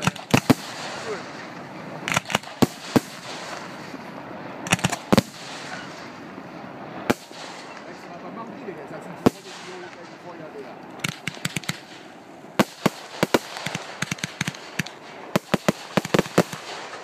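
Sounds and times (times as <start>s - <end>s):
firework shells bursting: 0.0s - 8.2s, 9.2s - 17.0s.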